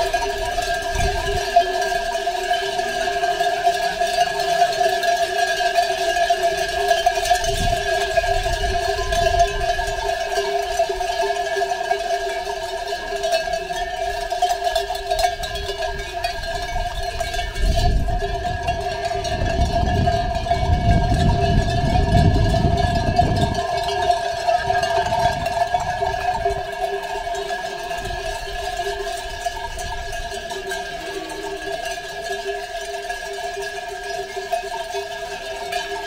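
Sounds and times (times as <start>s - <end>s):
sheep bells jangling: 0.0s - 36.0s.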